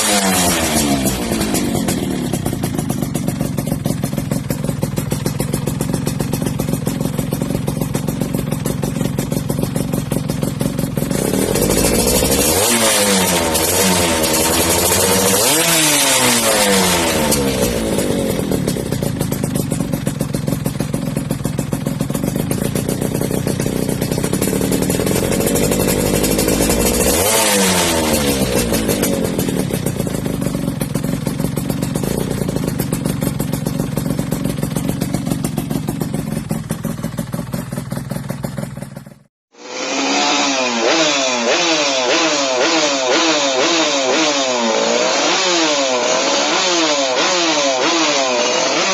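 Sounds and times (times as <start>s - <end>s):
two-stroke motorcycle engine revving: 0.0s - 48.9s.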